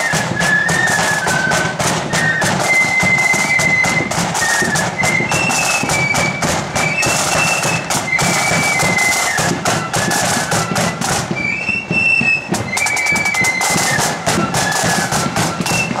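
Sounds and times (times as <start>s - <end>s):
flutes playing melody: 0.0s - 16.0s
snare drums: 0.0s - 16.0s.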